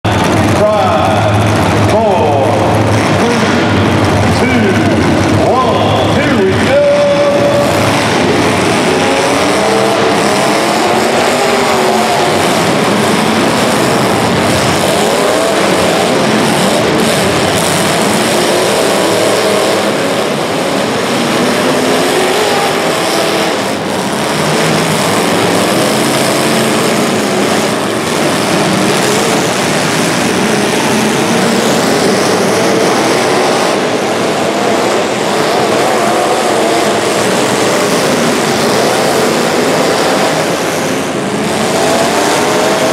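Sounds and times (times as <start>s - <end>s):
racing engines: 0.0s - 42.9s.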